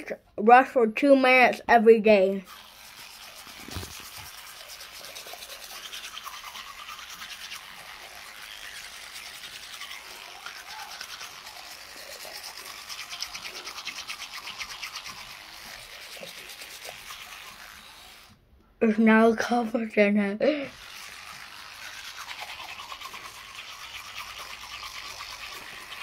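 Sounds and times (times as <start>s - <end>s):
electric toothbrush buzzing: 2.4s - 18.4s, 20.5s - 26.0s.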